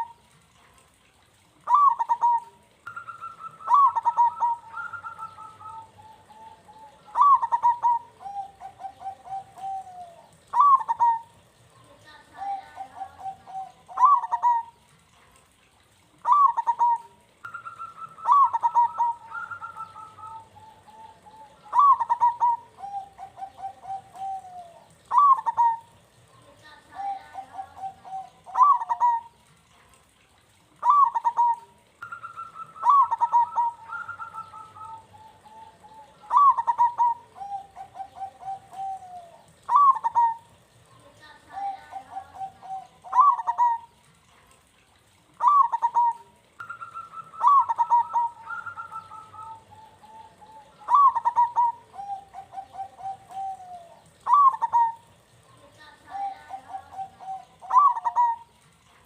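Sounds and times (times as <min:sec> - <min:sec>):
dove cooing song: 0:00.0 - 0:59.0.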